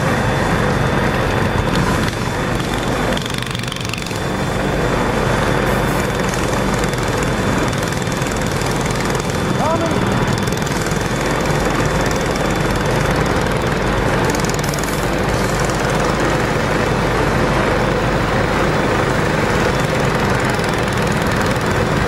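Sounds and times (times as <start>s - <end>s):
small bike engine running: 0.0s - 22.0s.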